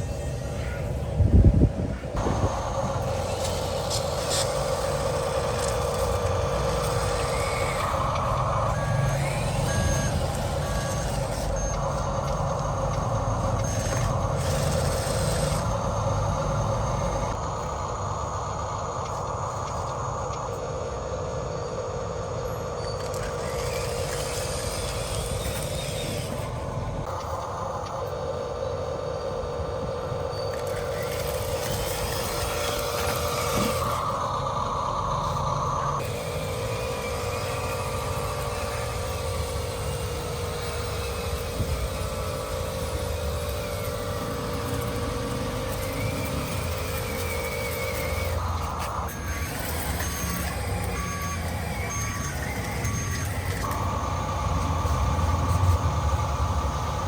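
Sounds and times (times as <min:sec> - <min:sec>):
toy motor whine: 0:00.0 - 0:17.4, 0:22.4 - 0:57.0.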